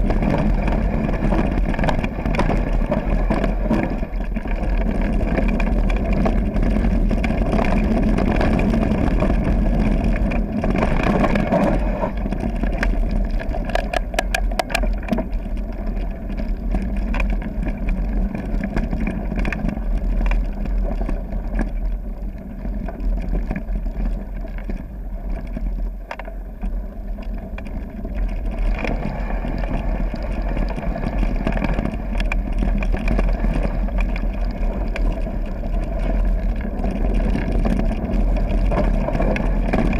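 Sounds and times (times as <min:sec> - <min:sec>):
bike rattling and clicking: 0:00.0 - 0:39.9
wind rumble on microphone: 0:00.0 - 0:39.9.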